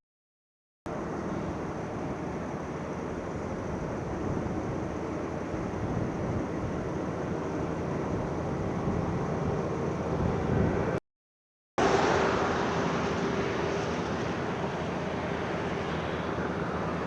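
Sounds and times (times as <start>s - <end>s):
heavy vehicle engines: 0.9s - 11.0s, 11.8s - 17.0s.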